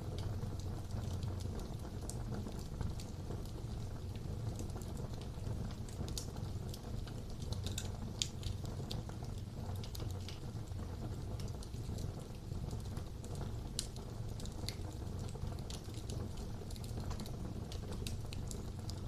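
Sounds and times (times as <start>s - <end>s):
flames rumbling: 0.0s - 19.0s
logs crackling and popping: 0.0s - 19.0s.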